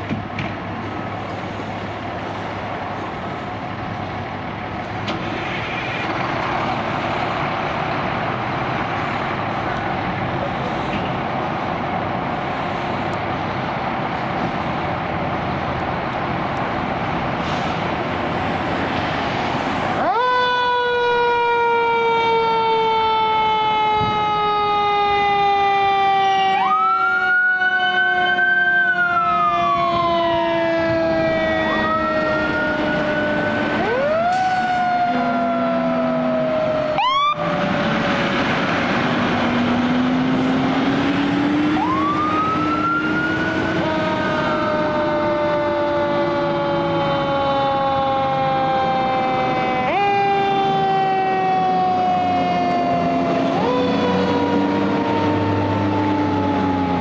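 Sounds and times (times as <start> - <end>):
fire truck sirens: 0.0 - 57.0
road and engine noise: 0.0 - 57.0.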